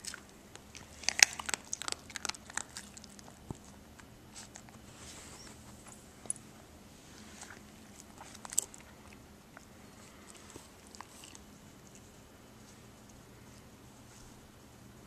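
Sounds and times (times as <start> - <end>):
puppy crunching food: 0.0 - 13.7.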